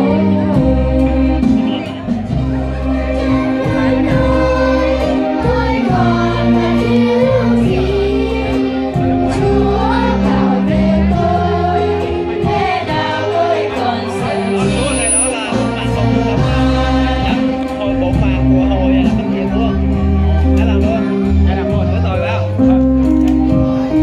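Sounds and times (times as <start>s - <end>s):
children's choir singing a hymn: 0.0s - 21.4s
sustained low accompaniment notes: 0.0s - 24.0s.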